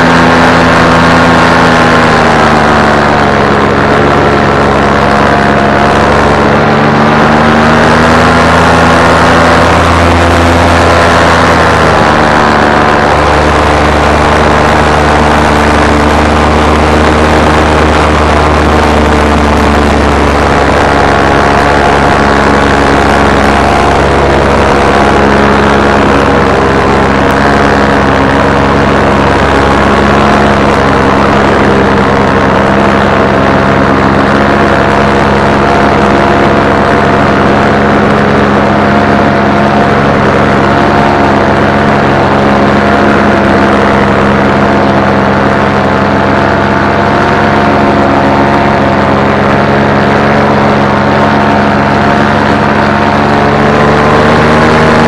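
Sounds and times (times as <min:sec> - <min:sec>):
drone motors humming: 0:00.0 - 0:55.0.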